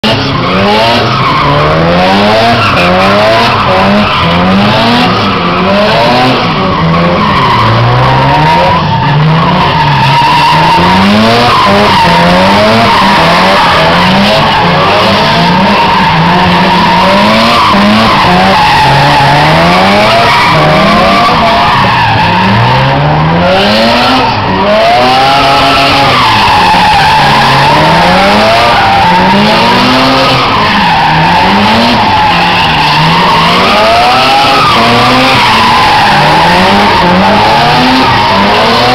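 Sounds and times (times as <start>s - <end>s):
car engines revving: 0.0s - 38.9s
tyres squealing and skidding: 0.0s - 38.9s.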